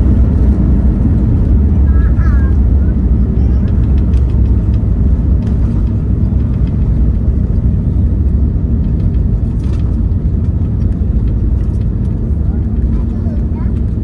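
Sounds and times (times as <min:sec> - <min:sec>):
vehicle cabin rumble: 0:00.0 - 0:14.0.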